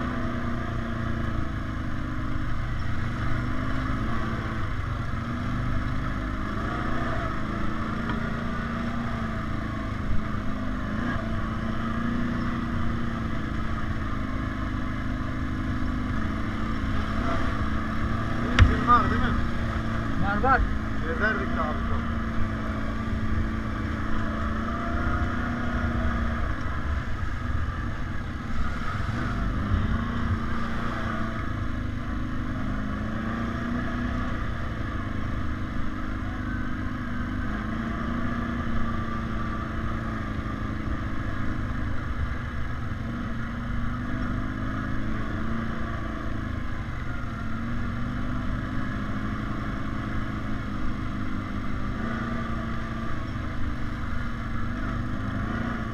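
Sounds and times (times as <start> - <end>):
atv engine running: 0.0 - 55.9
continuous low rumble: 0.0 - 55.9.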